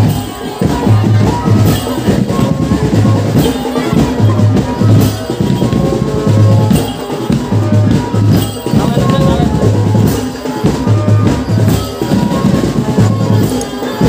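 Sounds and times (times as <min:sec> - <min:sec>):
bass drums: 0:00.0 - 0:14.0
marching drum band playing: 0:00.0 - 0:14.0
tune over drums: 0:00.0 - 0:14.0.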